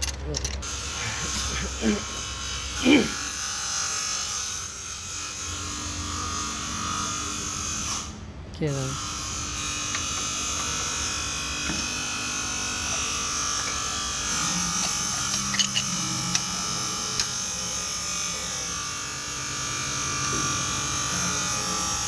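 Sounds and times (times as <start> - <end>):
mechanical buzz with high tones: 2.2 - 22.0.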